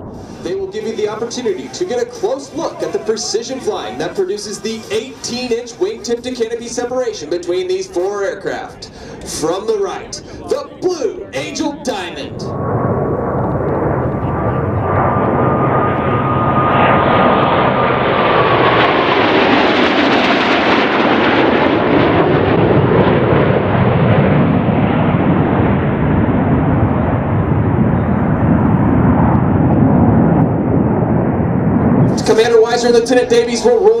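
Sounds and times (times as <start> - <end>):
heavy jet rumble: 0.0 - 34.0
jet engines roaring overhead: 0.0 - 34.0
jet whine dropping in pitch: 0.0 - 34.0.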